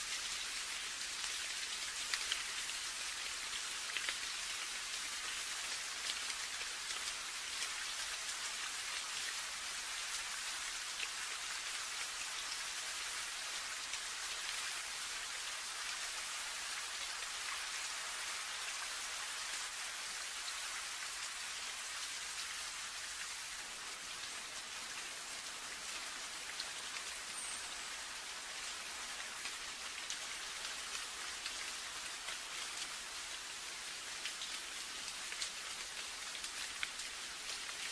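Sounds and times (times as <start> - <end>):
steady rain pattering: 0.0 - 37.9.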